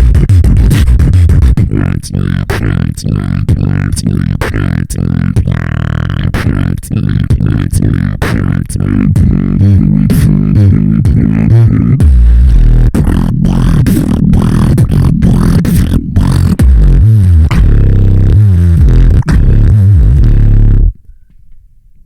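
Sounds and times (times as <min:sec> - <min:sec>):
person beatboxing: 0:00.0 - 0:21.0.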